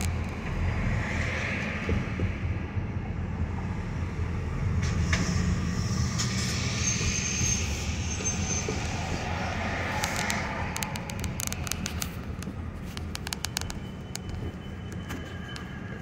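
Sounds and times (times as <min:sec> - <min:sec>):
bus running alongside: 0:00.0 - 0:16.0
road and engine rumble: 0:00.0 - 0:16.0.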